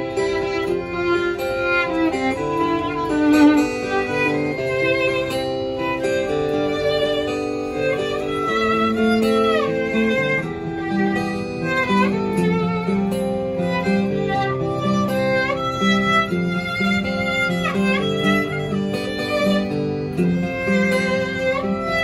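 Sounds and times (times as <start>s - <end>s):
acoustic guitar accompaniment: 0.0s - 22.0s
violin melody: 0.0s - 22.0s.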